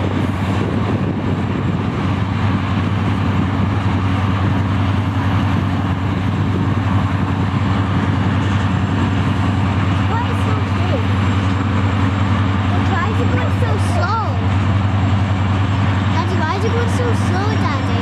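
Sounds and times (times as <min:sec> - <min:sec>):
diesel locomotive engine drone: 0:00.0 - 0:18.0.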